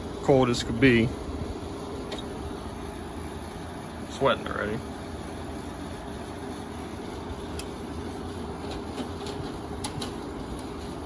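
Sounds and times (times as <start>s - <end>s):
air conditioner running: 0.0s - 11.0s.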